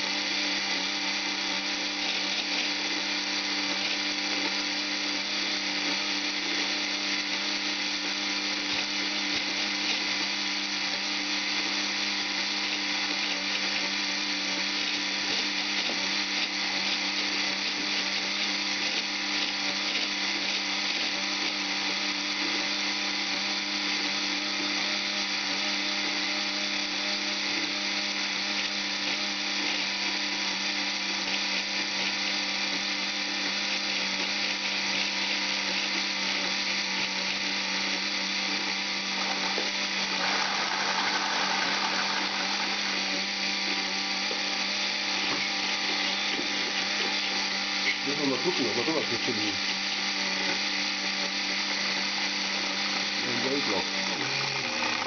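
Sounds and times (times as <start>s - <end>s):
motors and gears whirring: 0.0s - 55.0s.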